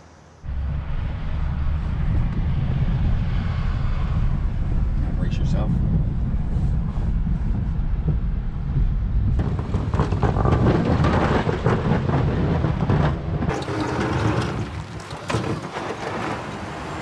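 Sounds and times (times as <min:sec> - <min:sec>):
rough outdoor noise with crackles: 0:00.0 - 0:17.0
truck engine and road rumble: 0:00.0 - 0:17.0.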